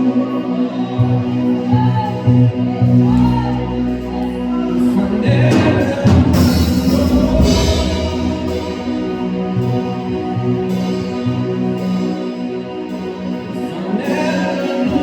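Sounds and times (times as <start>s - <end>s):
gospel singing: 0.0s - 15.0s
sustained chords: 0.0s - 15.0s
bass line: 1.0s - 15.0s.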